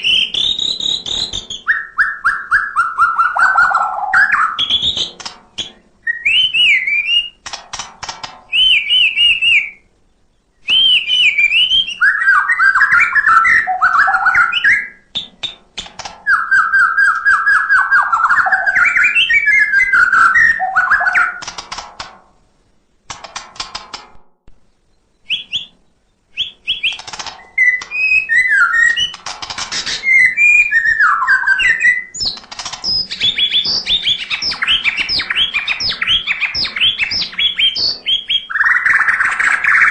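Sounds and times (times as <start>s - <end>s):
bird singing whistled phrases: 0.0s - 7.4s, 8.5s - 15.6s, 16.3s - 21.4s, 24.9s - 29.2s, 29.9s - 39.9s.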